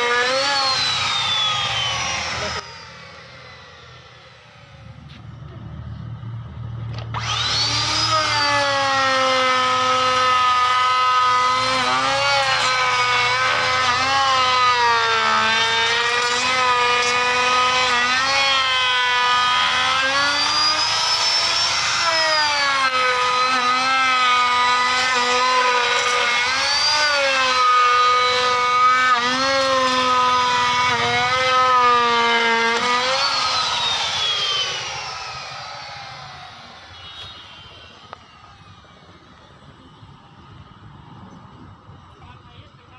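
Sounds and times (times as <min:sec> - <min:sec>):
router whining cutting wood: 0:00.0 - 0:05.6, 0:06.2 - 0:39.6.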